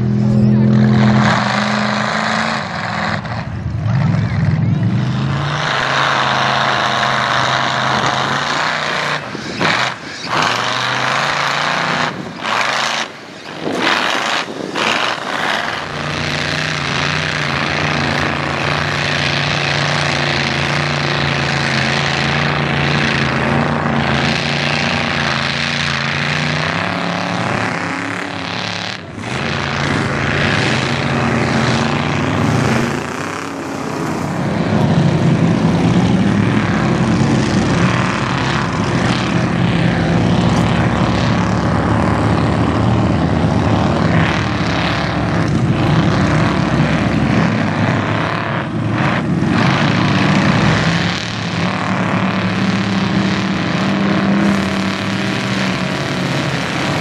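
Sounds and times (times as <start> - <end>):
truck engines revving: 0.0 - 57.0.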